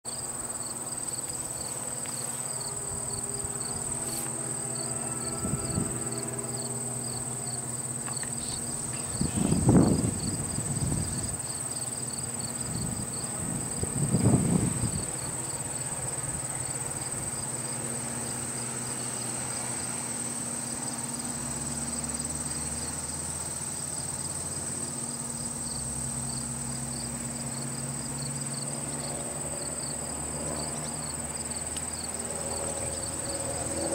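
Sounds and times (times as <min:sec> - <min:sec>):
crickets chirping: 0:00.1 - 0:33.9
high-pitched insect buzz: 0:00.1 - 0:33.9.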